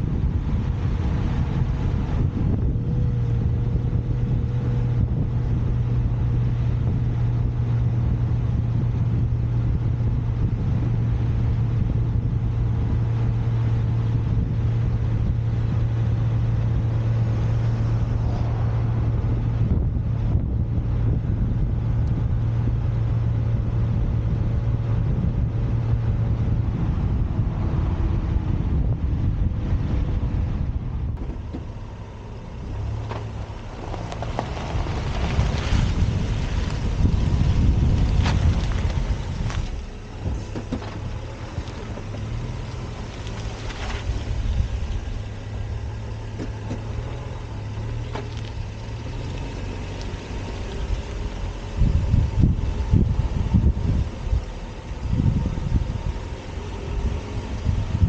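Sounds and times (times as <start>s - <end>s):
car engine drone: 0.0s - 58.0s
road and wind noise: 0.0s - 58.0s.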